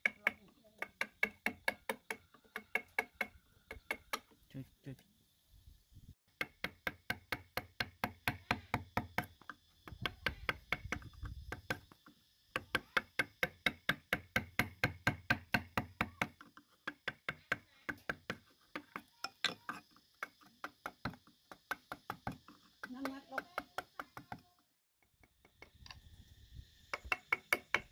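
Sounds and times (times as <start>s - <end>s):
mallet tapping carving gouge: 0.0s - 4.4s, 6.4s - 26.0s, 26.9s - 27.9s.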